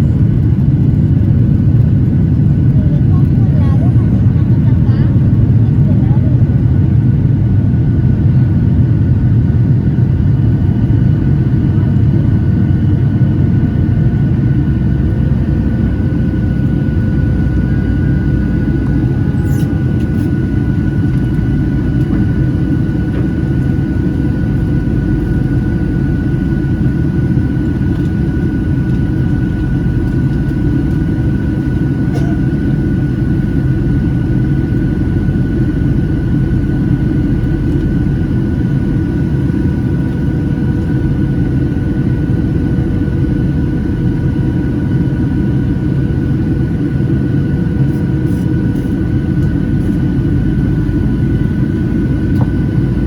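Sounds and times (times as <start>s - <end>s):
aircraft cabin low rumble: 0.0s - 53.0s.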